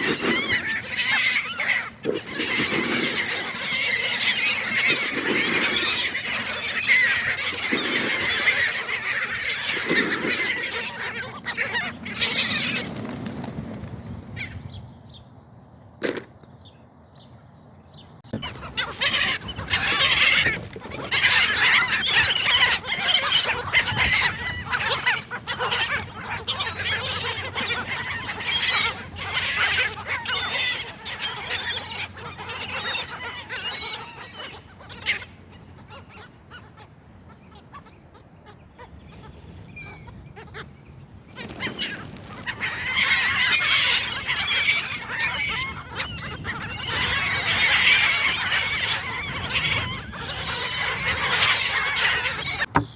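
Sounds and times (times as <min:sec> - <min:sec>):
seagulls squawking: 0:00.0 - 0:14.8, 0:18.3 - 0:52.9.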